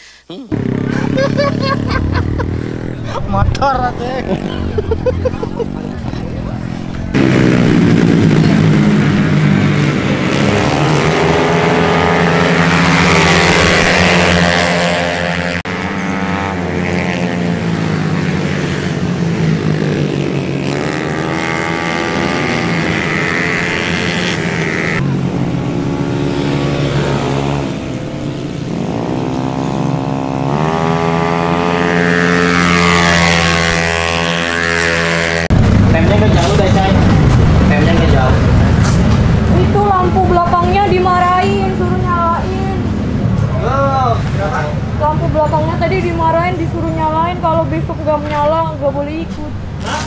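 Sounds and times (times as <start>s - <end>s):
racing scooter engines: 0.0s - 50.0s.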